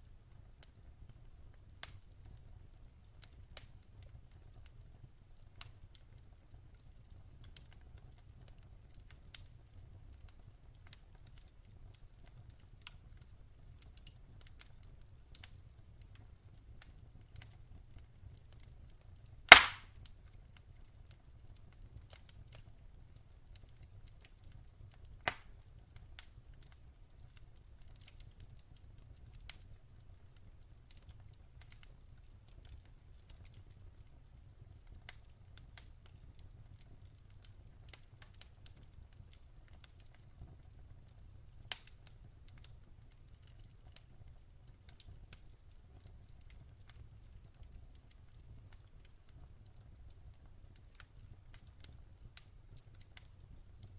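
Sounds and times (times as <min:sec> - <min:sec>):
campfire crackling: 0:00.0 - 0:53.9
fire popping: 0:00.3 - 0:53.9.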